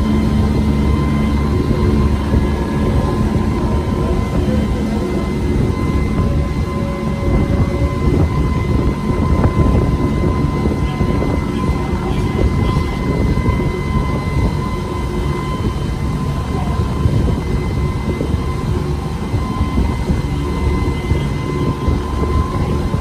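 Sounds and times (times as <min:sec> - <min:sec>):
faint engine whine: 0:00.0 - 0:23.0
motor boat engine rumble: 0:00.0 - 0:23.0
wind and water rushing: 0:00.0 - 0:23.0.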